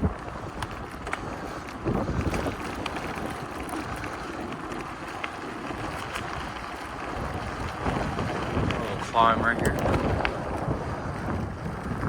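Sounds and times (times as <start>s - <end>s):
bicycle tyres on gravel: 0.0s - 12.0s
gravel clicks: 0.0s - 12.0s
wind buffeting microphone: 0.0s - 12.0s.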